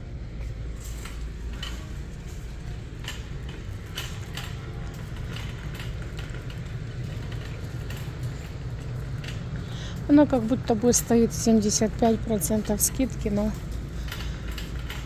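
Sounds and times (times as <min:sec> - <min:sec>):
shopping cart wheels rumbling: 0:00.0 - 0:15.0.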